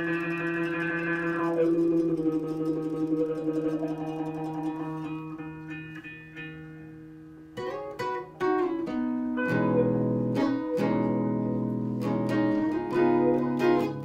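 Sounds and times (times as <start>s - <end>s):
acoustic guitar: 0.0s - 14.0s
electric guitar: 0.0s - 14.0s.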